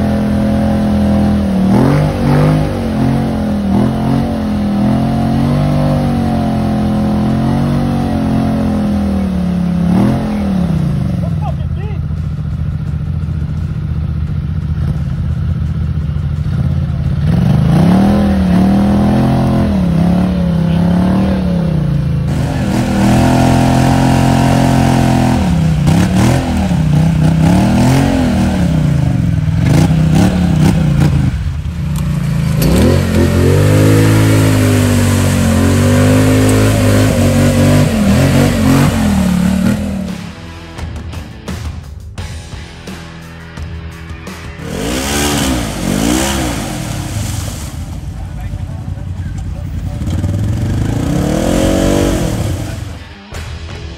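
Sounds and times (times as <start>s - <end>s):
atv engine revving: 0.0s - 41.6s, 44.5s - 53.9s.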